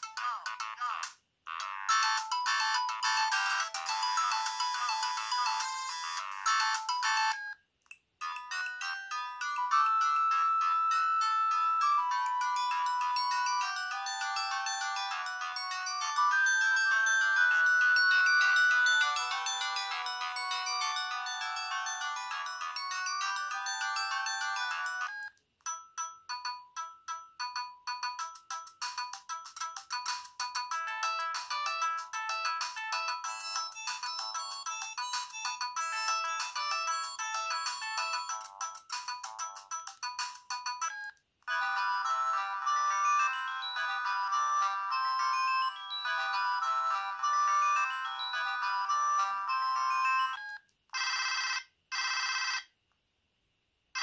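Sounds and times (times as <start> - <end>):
phone ringtone melody: 0.0 - 7.6, 8.2 - 52.7.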